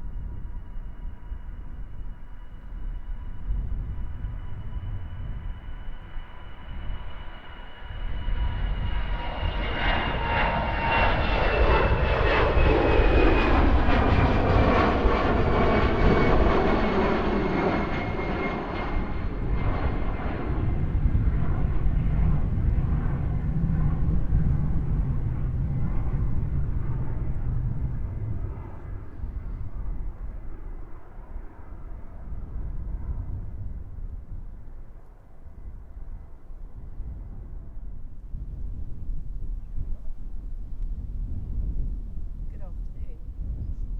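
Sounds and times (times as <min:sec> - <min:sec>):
jet airliner passing: 0:00.0 - 0:43.9.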